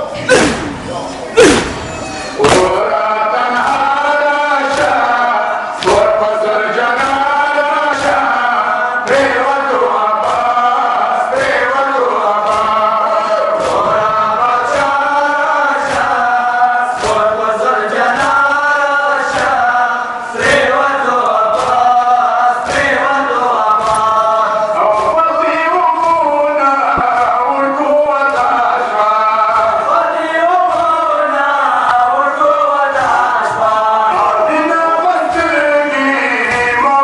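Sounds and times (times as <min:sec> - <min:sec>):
rhythmic chest-beating strikes: 0:00.0 - 0:37.0
men chanting in unison: 0:02.4 - 0:37.0.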